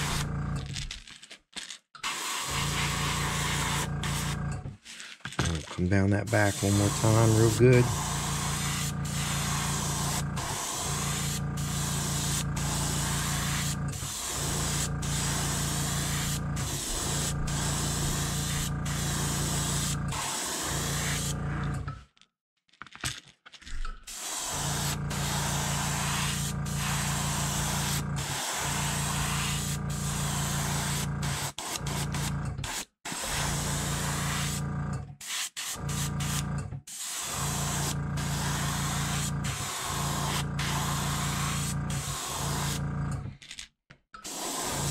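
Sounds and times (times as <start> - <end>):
airbrush spraying air hiss: 0.0 - 0.2, 2.1 - 4.3, 6.3 - 21.4, 24.1 - 34.6, 35.2 - 42.8, 44.2 - 44.9.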